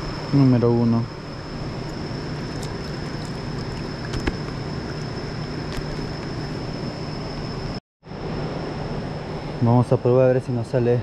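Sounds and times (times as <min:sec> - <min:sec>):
high steady whine: 0:00.0 - 0:11.0.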